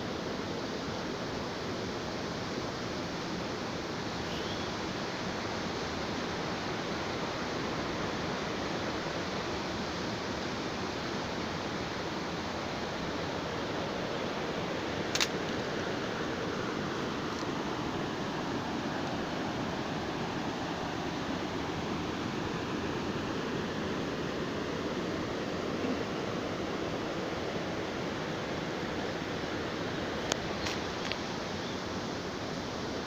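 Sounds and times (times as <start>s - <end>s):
waterfall rushing: 2.4s - 33.0s.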